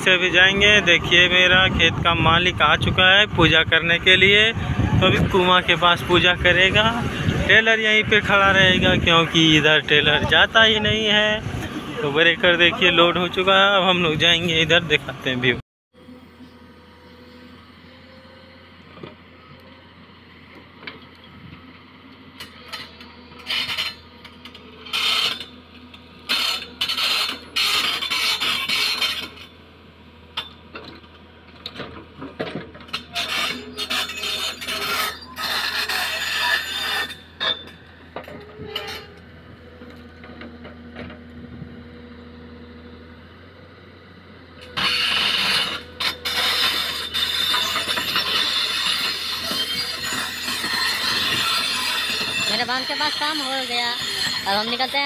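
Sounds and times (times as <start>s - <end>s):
steel tracks grinding and squealing: 0.0s - 19.6s, 22.4s - 29.6s, 32.4s - 40.1s, 44.6s - 55.0s
diesel engine running: 0.0s - 55.0s.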